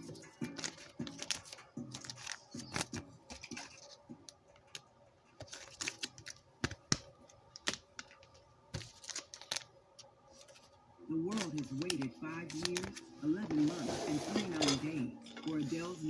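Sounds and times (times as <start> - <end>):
trading cards being flipped: 0.4 - 4.0, 4.6 - 7.0, 7.6 - 14.4.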